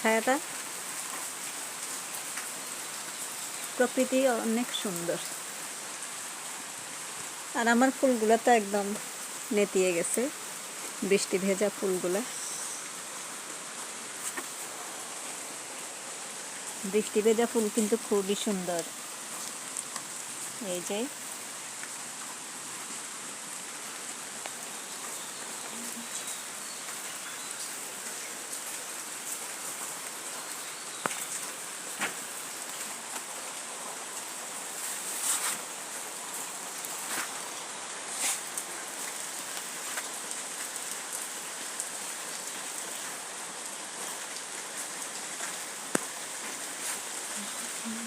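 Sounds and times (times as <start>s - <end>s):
close raindrops landing: 0.0s - 48.0s
steady rain falling: 0.0s - 48.0s.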